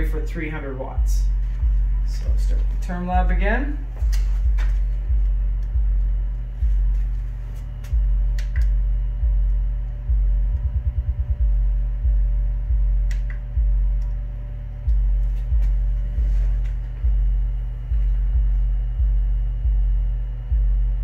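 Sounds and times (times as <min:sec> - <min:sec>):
low test tone: 0:00.0 - 0:21.0.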